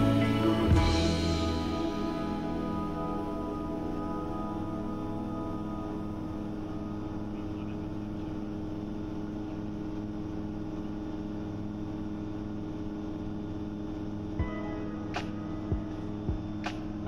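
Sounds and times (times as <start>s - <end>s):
aircraft engine and propeller drone: 0.0s - 17.0s.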